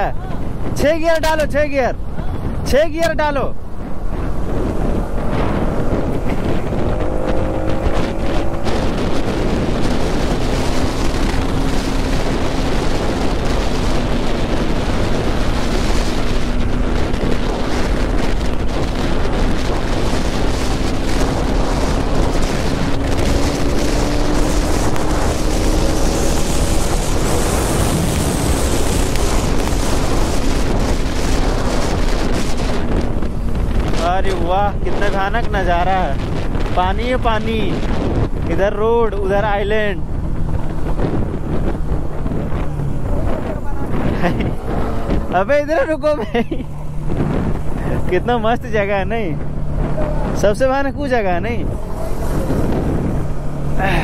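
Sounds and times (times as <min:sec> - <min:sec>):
motorcycle engine cruising: 0:00.0 - 0:54.0
wind buffeting microphone: 0:00.0 - 0:54.0.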